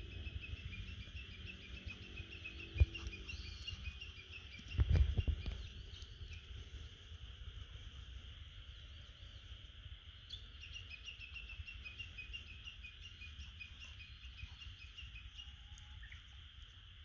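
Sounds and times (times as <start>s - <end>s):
bird chirping: 0.0s - 16.7s
low rumble of wind: 0.0s - 17.0s
steady high hiss: 0.0s - 17.0s.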